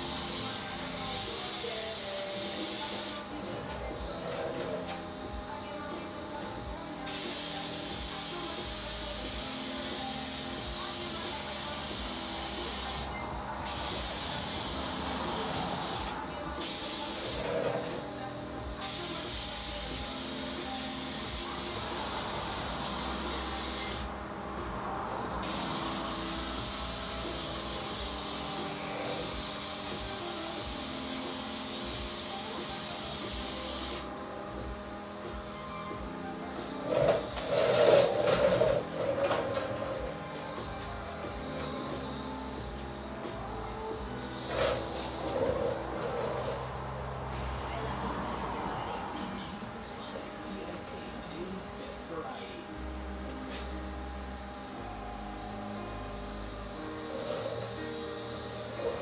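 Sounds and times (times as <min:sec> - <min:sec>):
spray gun hissing: 0:00.0 - 0:18.0, 0:18.8 - 0:24.4, 0:25.2 - 0:34.1, 0:36.5 - 0:43.2, 0:44.0 - 0:48.0, 0:53.4 - 0:59.0.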